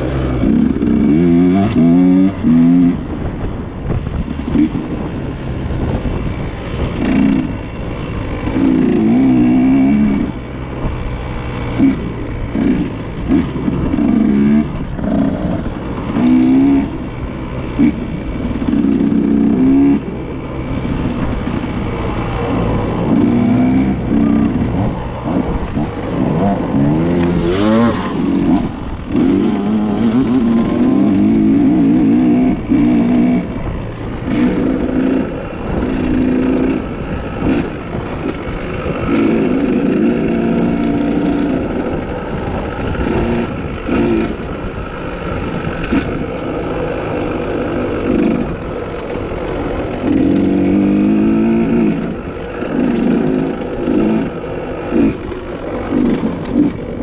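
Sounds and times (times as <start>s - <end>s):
dirt bike engine revving: 0.0s - 3.2s, 5.8s - 57.0s.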